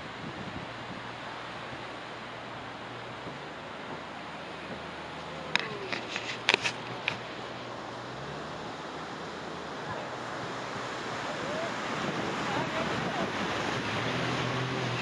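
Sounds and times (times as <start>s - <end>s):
whitewater rushing: 0.0s - 15.0s.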